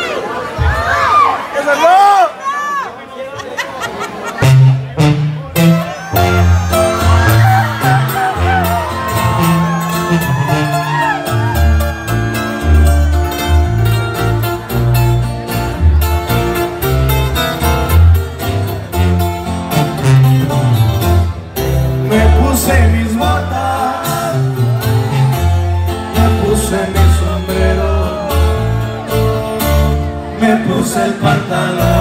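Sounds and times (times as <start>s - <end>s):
acoustic guitars strummed: 4.4s - 32.0s
tuba bass notes: 4.4s - 32.0s.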